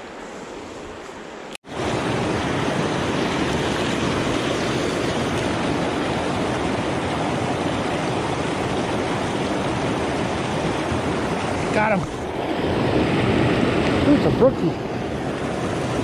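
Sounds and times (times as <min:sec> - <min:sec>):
water rushing over rocks: 0:01.6 - 0:16.0.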